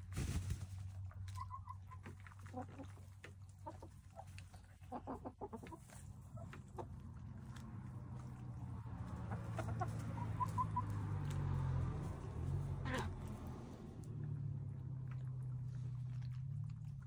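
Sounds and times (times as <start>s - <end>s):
hens clucking: 0.0s - 16.1s.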